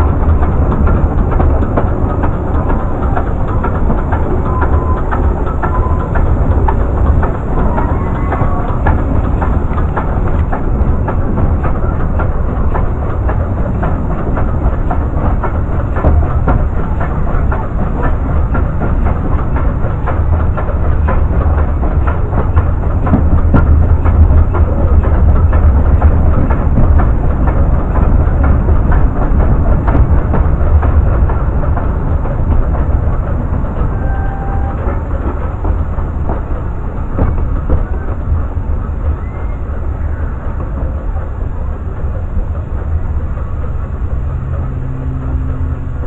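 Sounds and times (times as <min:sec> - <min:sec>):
train rumbling along track: 0:00.0 - 0:46.0.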